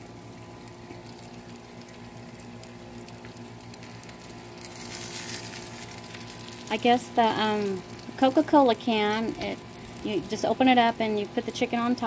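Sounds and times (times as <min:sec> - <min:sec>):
chicken sizzling on grill: 0:00.0 - 0:12.0
steady low hum: 0:00.0 - 0:12.0.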